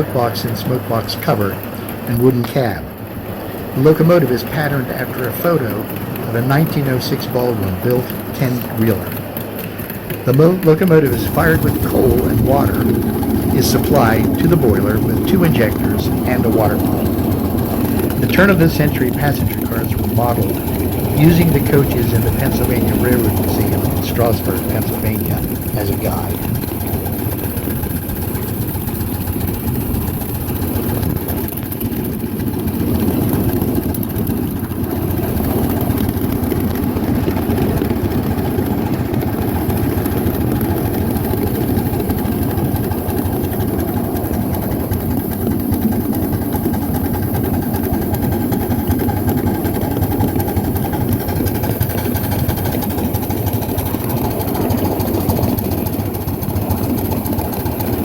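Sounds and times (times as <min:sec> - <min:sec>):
steam locomotive running: 0:00.0 - 0:58.0.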